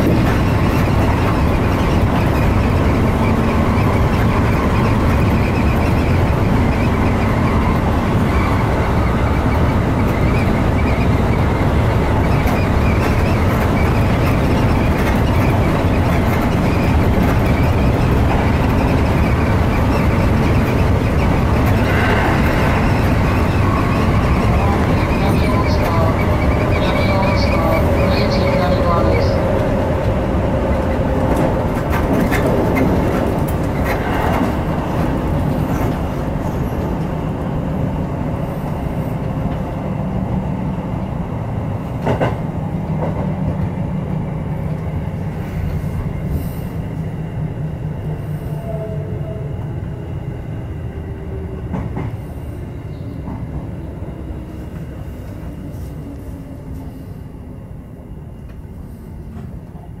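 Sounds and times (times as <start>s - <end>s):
train rolling over rail joints: 0.0s - 60.0s.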